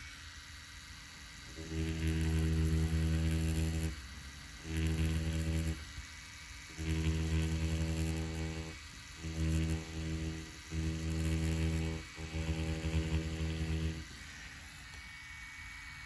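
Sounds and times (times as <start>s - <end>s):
tattoo machine buzzing: 0.0s - 16.0s.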